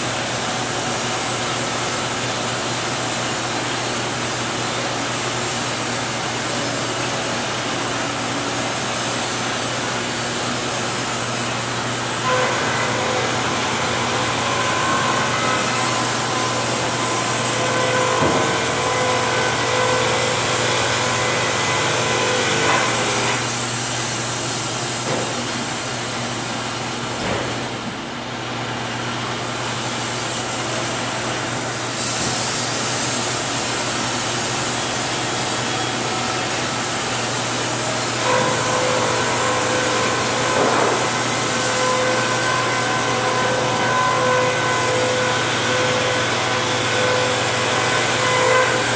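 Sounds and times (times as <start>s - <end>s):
steady machine whine: 0.0s - 24.7s, 32.6s - 48.9s
sawmill machinery running: 0.0s - 48.9s.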